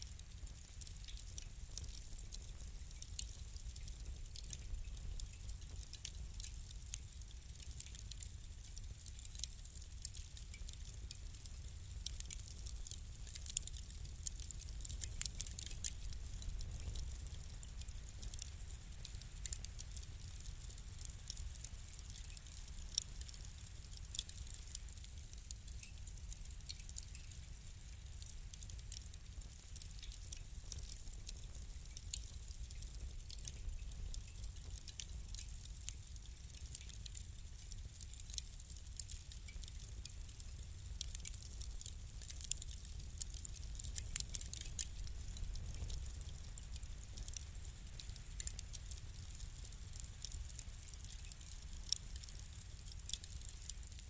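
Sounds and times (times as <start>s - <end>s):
low rumble of burning: 0.0s - 54.0s
wood fire crackling and popping: 0.0s - 54.0s.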